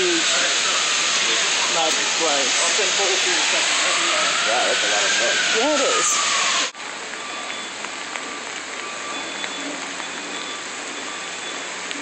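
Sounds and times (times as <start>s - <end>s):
floodwater rushing: 0.0s - 12.0s
rain on a wet street: 0.0s - 12.0s.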